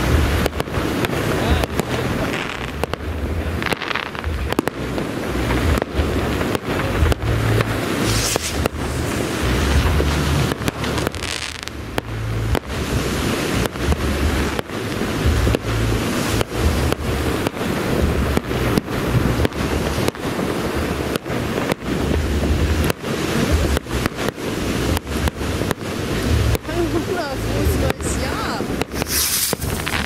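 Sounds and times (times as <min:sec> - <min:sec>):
fireworks bursts and crackle: 0:00.0 - 0:30.0
wind buffeting microphone: 0:00.0 - 0:30.0.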